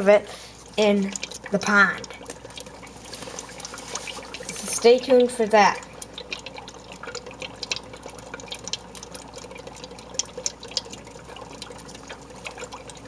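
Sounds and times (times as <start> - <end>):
dry ice fizzing and popping: 0.0 - 13.0.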